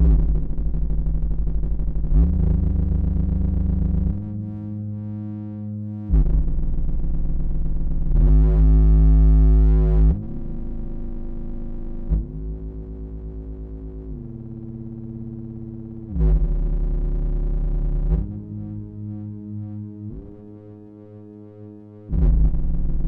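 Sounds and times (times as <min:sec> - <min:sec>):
synthesizer playing low held notes: 0:00.0 - 0:23.0.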